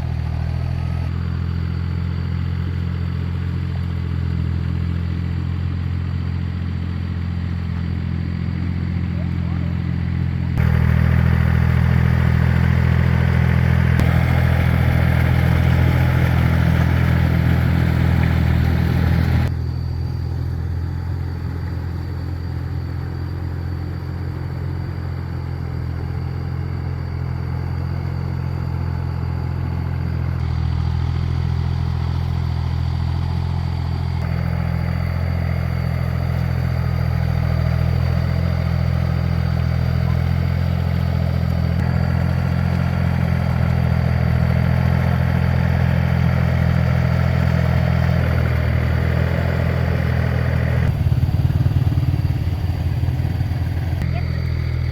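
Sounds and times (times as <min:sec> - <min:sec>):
tractor engine droning: 0:00.0 - 0:54.9.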